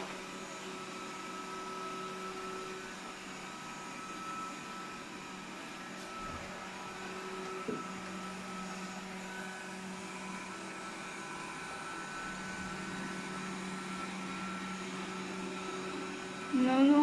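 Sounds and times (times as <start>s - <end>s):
robot vacuum cleaner whirring: 0.0s - 17.0s.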